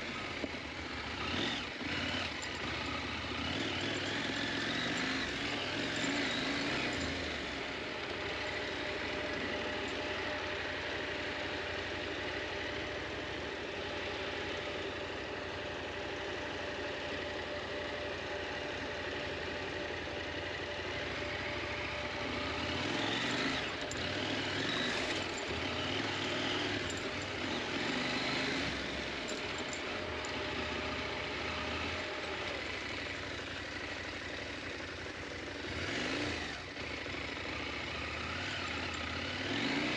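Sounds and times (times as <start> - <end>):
motorcycle engine revving: 0.0 - 14.3, 20.3 - 39.9.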